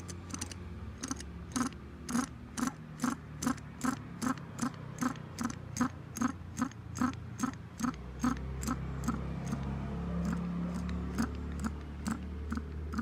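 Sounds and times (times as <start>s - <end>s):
mechanical ticking: 0.0s - 13.0s.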